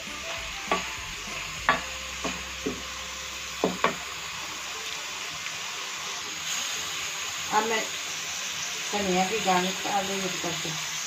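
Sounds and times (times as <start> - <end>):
steady sizzle: 0.0 - 11.0.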